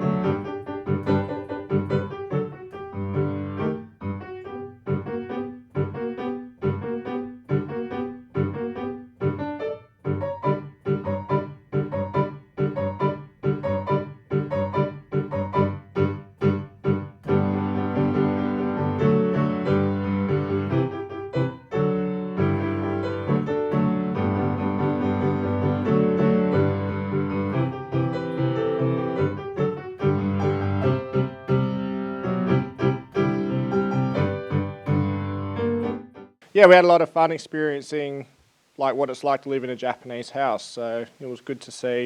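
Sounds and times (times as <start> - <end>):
piano music: 0.0 - 36.4.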